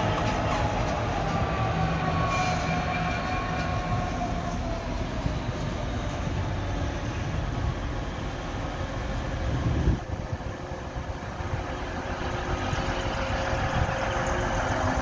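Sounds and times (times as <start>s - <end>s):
diesel train engine rumble: 0.0s - 15.0s.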